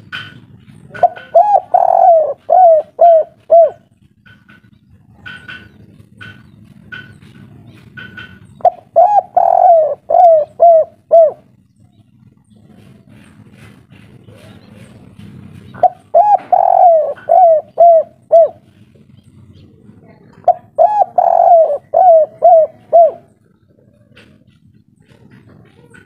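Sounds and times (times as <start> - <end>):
spotted dove cooing: 0.0 - 11.6, 12.5 - 26.0.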